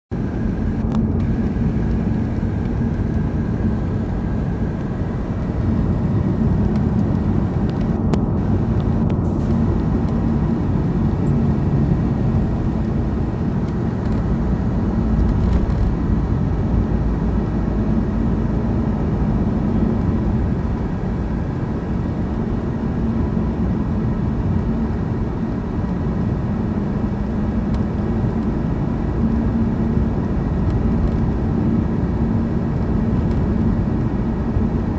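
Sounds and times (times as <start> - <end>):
car cabin road and engine noise: 0.1 - 34.9.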